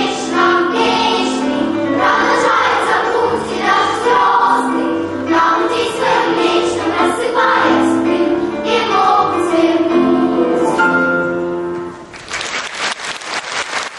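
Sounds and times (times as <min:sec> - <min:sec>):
children's choir singing: 0:00.0 - 0:11.4.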